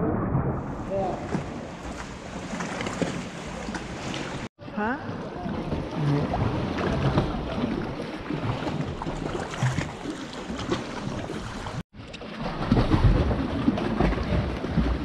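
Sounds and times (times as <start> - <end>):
water lapping against hull: 0.0 - 15.0
paddle strokes splashing: 1.1 - 15.0.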